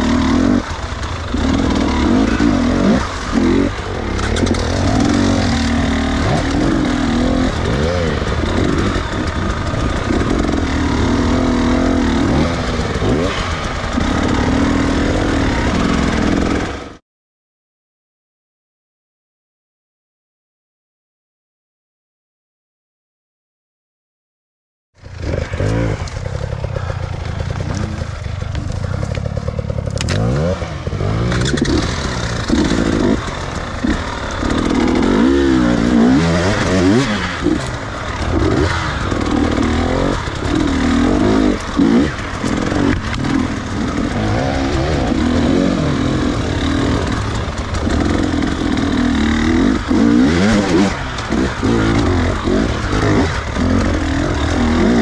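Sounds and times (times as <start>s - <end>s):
dirt bike engine revving: 0.0s - 17.0s, 25.0s - 55.0s.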